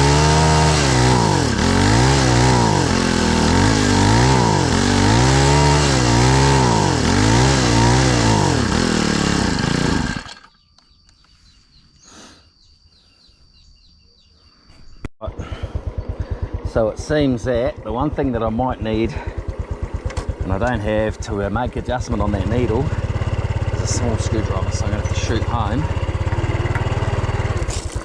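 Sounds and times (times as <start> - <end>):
brush cutter engine surging: 0.0 - 10.6, 15.3 - 28.0.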